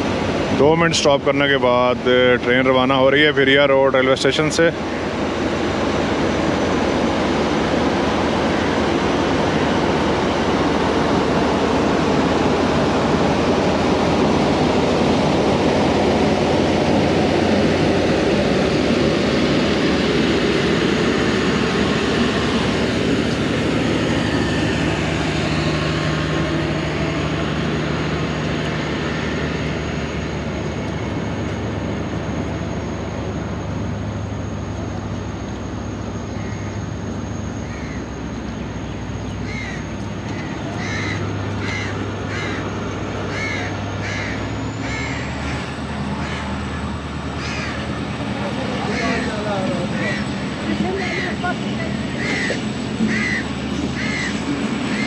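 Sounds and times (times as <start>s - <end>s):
passenger train rolling: 0.0s - 55.0s.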